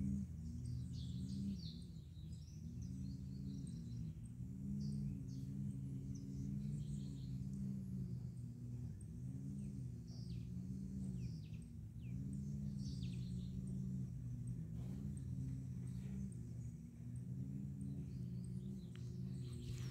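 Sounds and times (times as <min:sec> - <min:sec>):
birds chirping: 0:00.0 - 0:19.9
low droning hum: 0:00.0 - 0:19.9.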